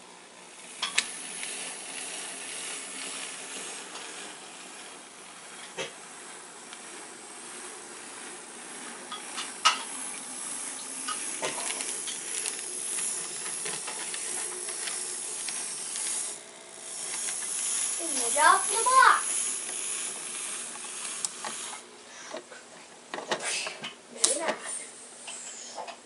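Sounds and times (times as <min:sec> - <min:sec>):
model train running on track: 0:00.0 - 0:21.8.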